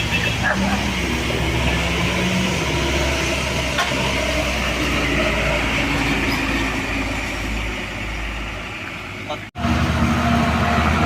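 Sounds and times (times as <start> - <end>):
truck diesel engine labouring: 0.0 - 11.0.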